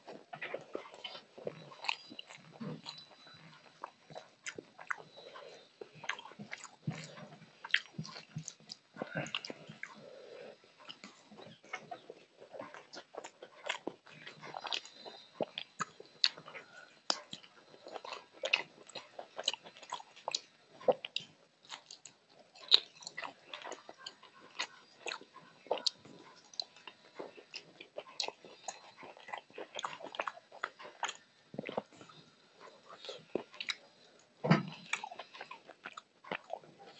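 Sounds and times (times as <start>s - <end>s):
wet chewing and mouth smacks: 0.0s - 36.9s.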